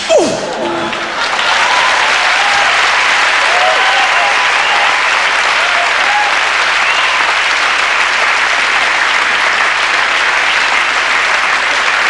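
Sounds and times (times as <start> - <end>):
audience clapping: 0.8 - 12.0.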